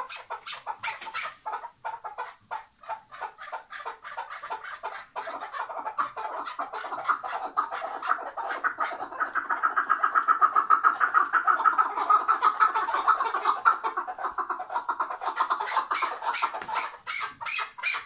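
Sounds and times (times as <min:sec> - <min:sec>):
partridge clucking calls: 0:00.0 - 0:18.0.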